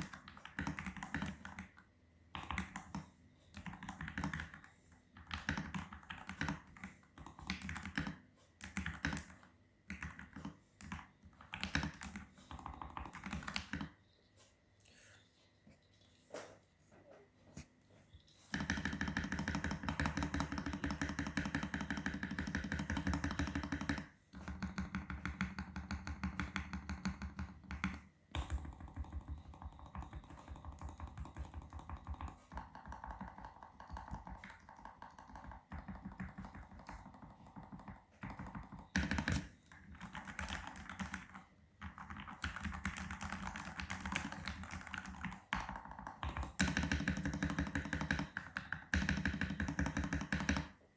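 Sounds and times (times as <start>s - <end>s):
mechanical keyboard typing: 0.0s - 14.0s, 18.5s - 50.8s.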